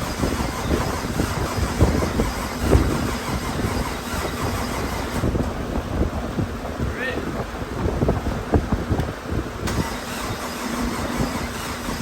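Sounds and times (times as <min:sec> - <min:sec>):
car engine exhaust rumble: 0:00.0 - 0:12.0.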